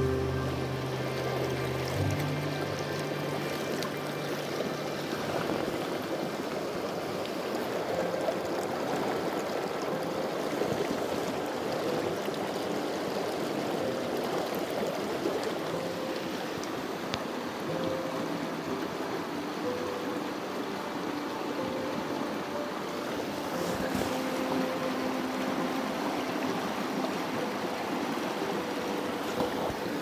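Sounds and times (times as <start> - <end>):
creek running over rocks: 0.0 - 30.0.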